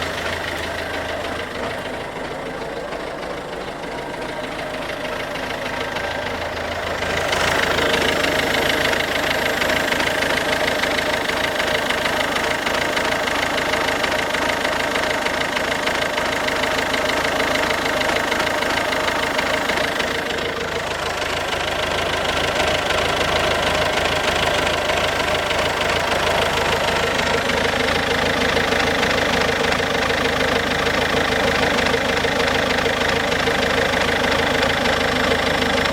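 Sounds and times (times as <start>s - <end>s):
diesel engine knocking: 0.0s - 35.9s.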